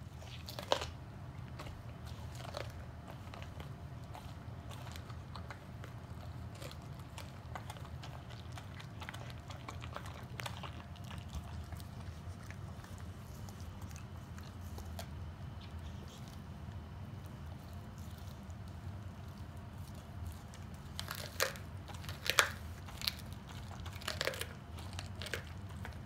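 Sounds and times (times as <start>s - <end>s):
dog chewing meat and bone: 0.0s - 26.0s
steady low hum: 0.0s - 26.0s.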